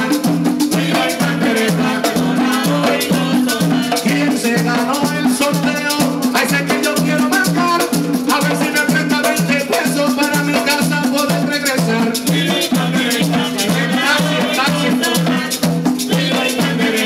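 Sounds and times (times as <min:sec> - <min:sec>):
frame drums beating: 0:00.0 - 0:17.0.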